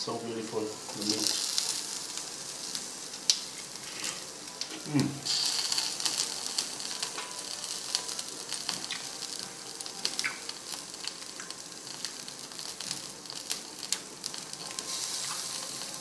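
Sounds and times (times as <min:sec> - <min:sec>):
meat sizzling on grill: 0:00.0 - 0:16.0.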